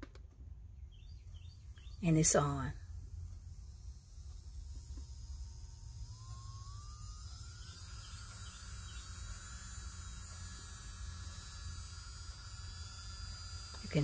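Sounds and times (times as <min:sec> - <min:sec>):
nail drill motor whining: 0:00.0 - 0:14.0.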